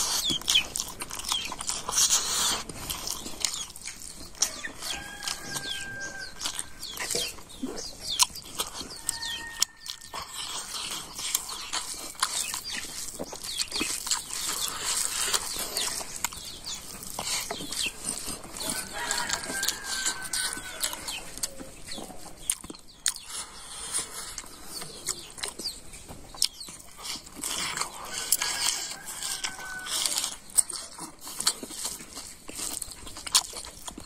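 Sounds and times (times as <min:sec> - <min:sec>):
chickens clucking: 0:00.0 - 0:34.0
eating by hand clicks: 0:00.0 - 0:34.0.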